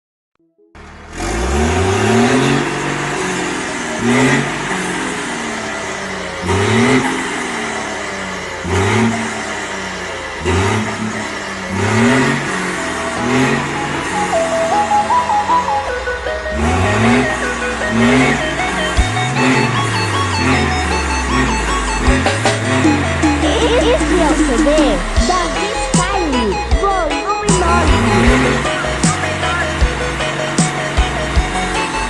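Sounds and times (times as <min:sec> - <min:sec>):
diesel engine revving: 0:00.8 - 0:32.0.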